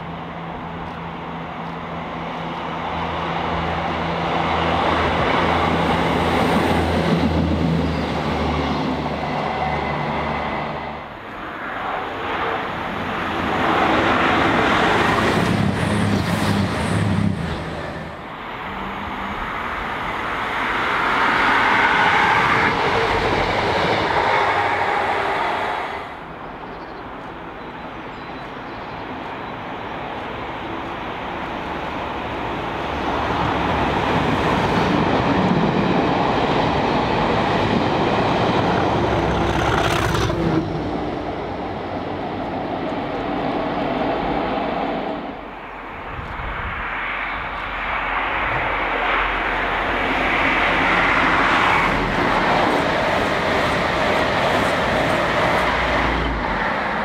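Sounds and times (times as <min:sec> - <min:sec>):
diesel trains passing: 0:00.0 - 0:57.0
rail and wheel noise: 0:00.0 - 0:57.0.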